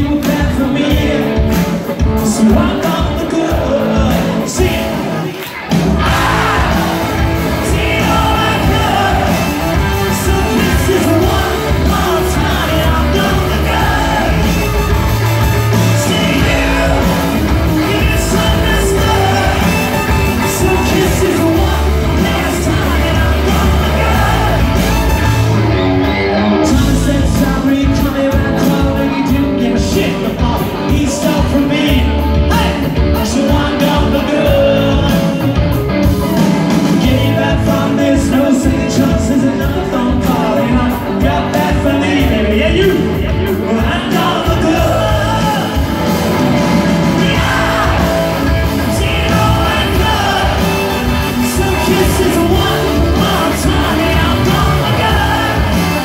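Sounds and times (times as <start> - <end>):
lead singer: 0.0 - 56.0
live rock band playing: 0.0 - 56.0.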